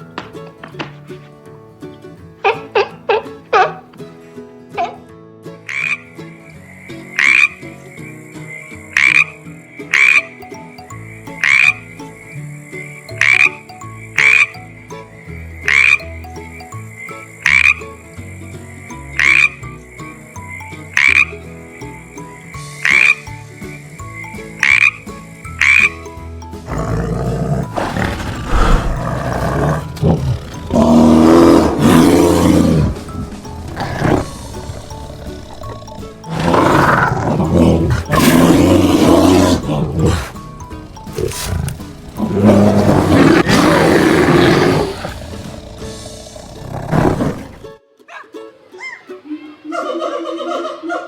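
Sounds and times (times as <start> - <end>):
frog croaking: 5.7 - 47.7.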